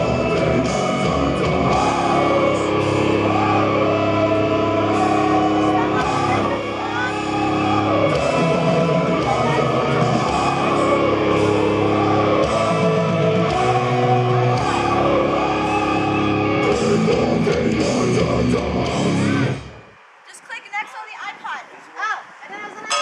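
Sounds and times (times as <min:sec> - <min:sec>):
heavy metal rock music: 0:00.0 - 0:20.0.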